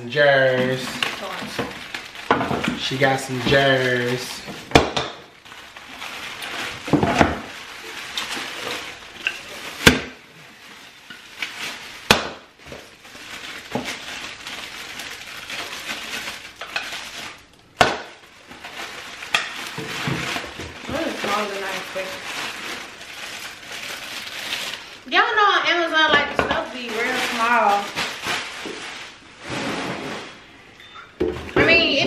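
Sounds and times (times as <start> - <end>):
plastic wrapping rustling: 0.0 - 32.0.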